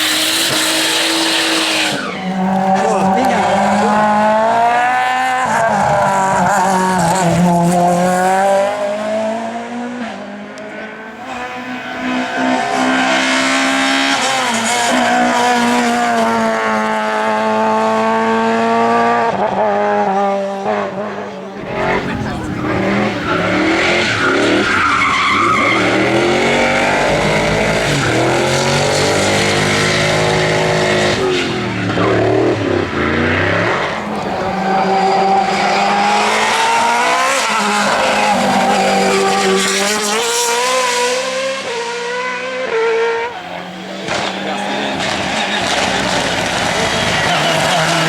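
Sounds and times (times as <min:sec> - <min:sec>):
race car engine revving: 0:00.0 - 0:48.0.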